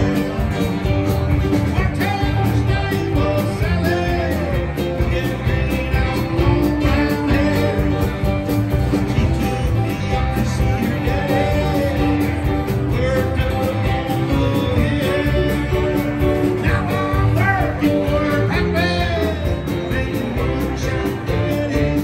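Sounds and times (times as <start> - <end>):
live country-rock band: 0.0 - 22.0.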